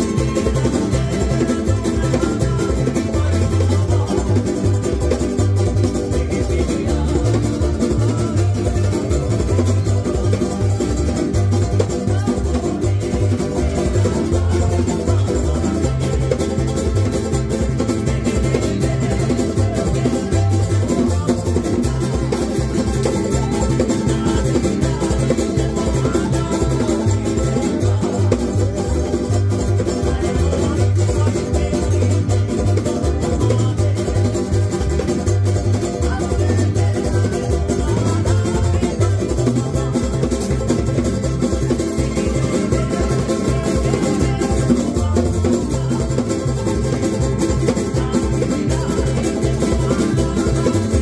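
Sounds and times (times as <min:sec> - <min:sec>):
acoustic guitar: 0:00.0 - 0:51.0
electric guitar: 0:00.0 - 0:51.0
low bass beat: 0:00.0 - 0:51.0
strummed ukuleles: 0:00.0 - 0:51.0.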